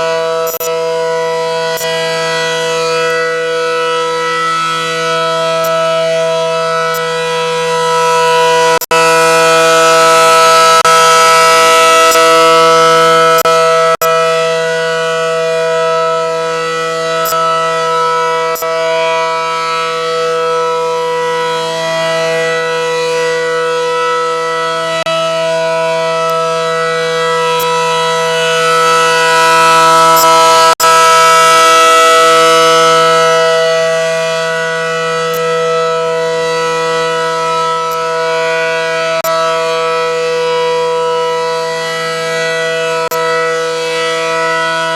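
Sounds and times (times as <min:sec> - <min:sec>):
warning siren: 0:00.0 - 0:44.9.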